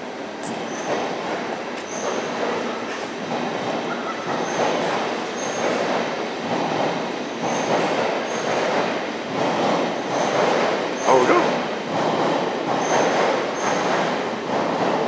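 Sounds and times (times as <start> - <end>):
train wheels knocking on rails: 0.4 - 15.0.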